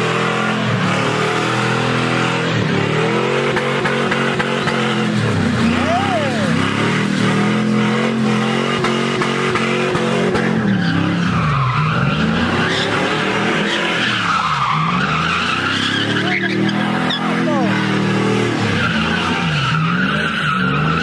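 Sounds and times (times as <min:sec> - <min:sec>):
car engine at high revs: 0:00.0 - 0:21.0
tyres squealing and skidding: 0:00.0 - 0:21.0.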